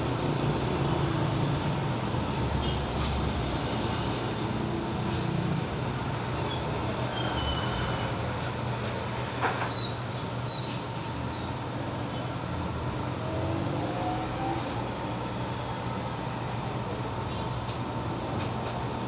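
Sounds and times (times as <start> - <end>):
passing street traffic rumble: 0.0 - 19.0.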